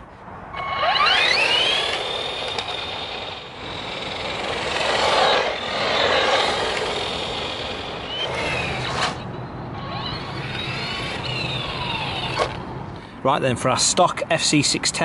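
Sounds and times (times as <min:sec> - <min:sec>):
rushing noise: 0:00.0 - 0:12.9
rc truck motor whining: 0:00.5 - 0:12.7.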